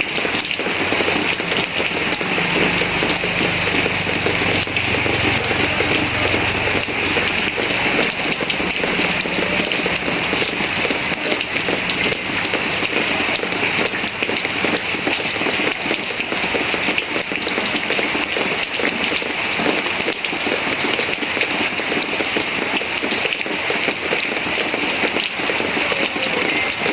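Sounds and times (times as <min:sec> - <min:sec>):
rain falling steadily: 0:00.0 - 0:26.9.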